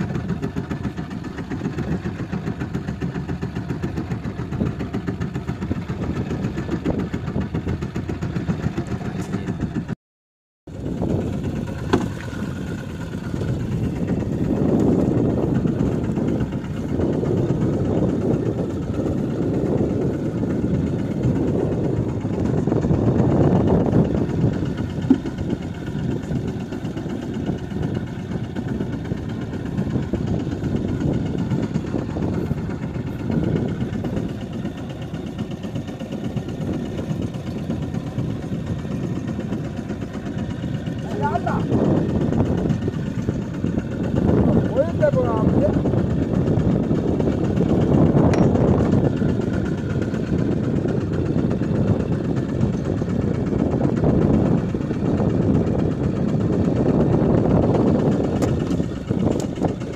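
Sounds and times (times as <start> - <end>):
boat engine droning: 0.0 - 10.0, 10.7 - 59.9.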